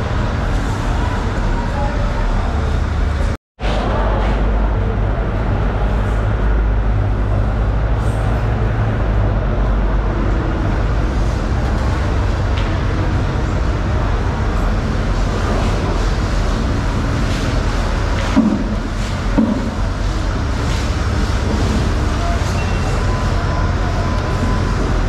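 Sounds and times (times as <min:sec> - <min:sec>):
low mechanical rumble and hum: 0:00.0 - 0:25.0.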